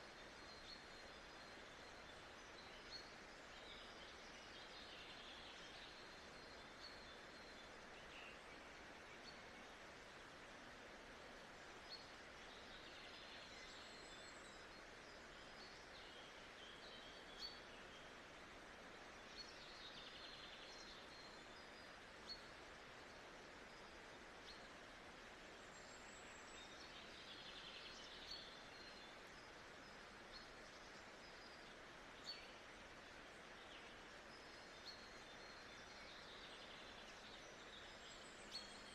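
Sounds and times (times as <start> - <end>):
soft steady hiss: 0.0 - 38.9.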